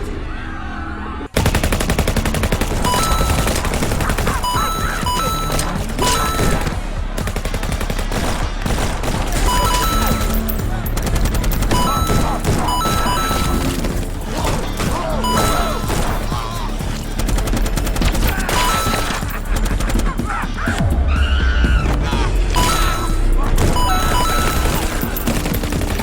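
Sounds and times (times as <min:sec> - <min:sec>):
background music: 0:01.3 - 0:26.0
rapid gunfire: 0:01.4 - 0:20.8, 0:22.6 - 0:26.0.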